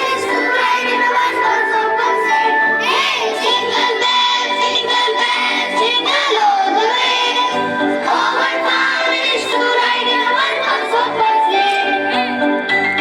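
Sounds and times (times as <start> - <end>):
music with singing voices: 0.0 - 13.0.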